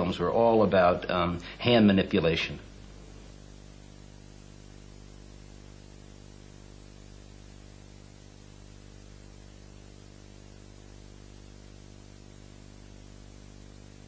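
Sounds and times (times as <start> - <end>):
electrical hum: 0.0 - 14.0
steady hiss: 0.0 - 14.0.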